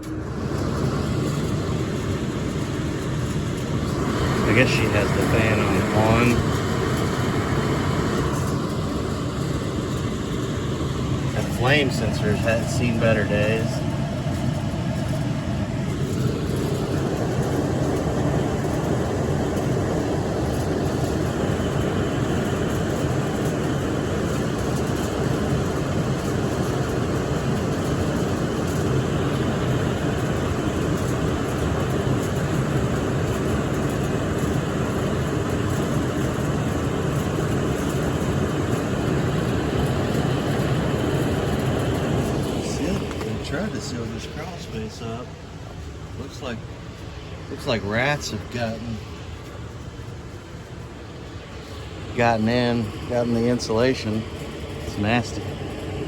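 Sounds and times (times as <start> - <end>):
furnace fan rush of air: 0.0 - 56.0.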